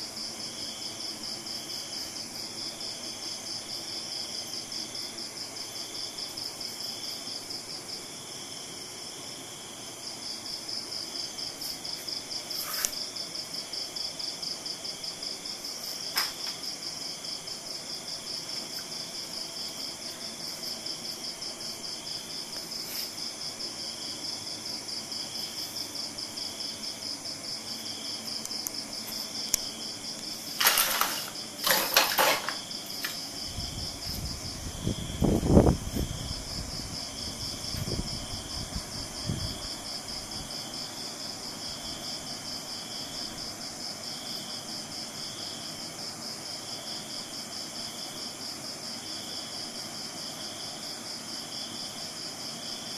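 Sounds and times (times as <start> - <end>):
crickets chirping: 0.0 - 52.9
slower pulsing insect call: 0.0 - 52.9.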